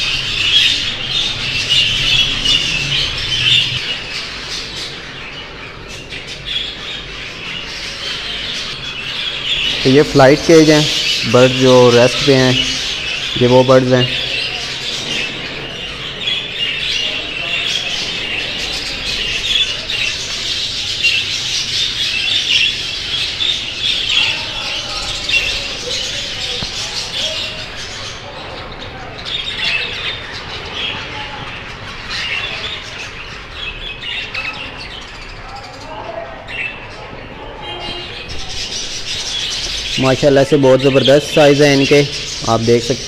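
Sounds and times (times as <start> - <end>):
budgerigars chattering: 0.0 - 43.0.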